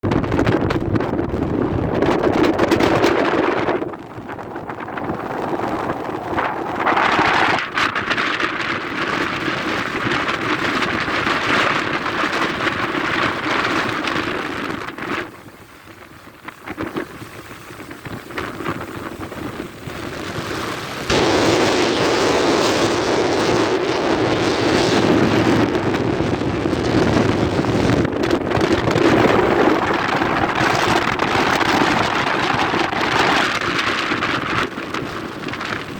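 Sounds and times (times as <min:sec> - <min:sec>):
wind: 0:00.0 - 0:35.9
rain: 0:04.1 - 0:35.9.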